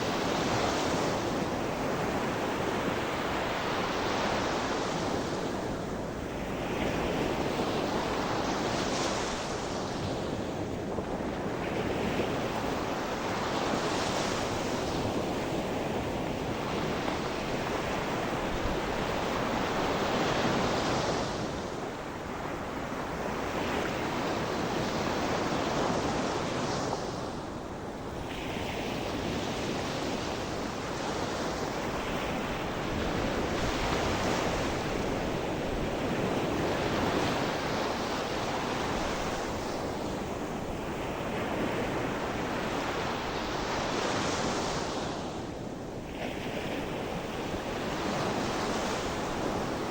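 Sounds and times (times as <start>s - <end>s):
waves breaking on shore: 0.0s - 49.9s
wind on microphone: 0.0s - 49.9s.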